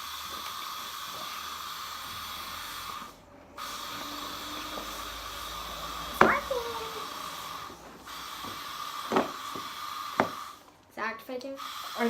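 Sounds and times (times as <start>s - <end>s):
aerosol can spraying hiss: 0.0s - 10.6s, 11.6s - 12.0s.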